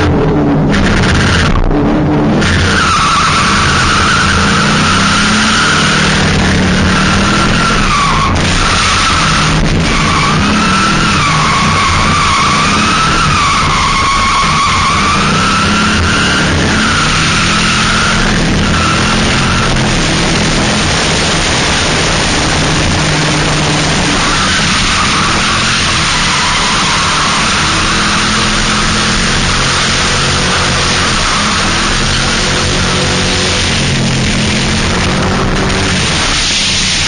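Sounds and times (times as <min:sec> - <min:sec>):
car engine running: 0:00.0 - 0:37.0
tyres squealing: 0:02.4 - 0:36.4.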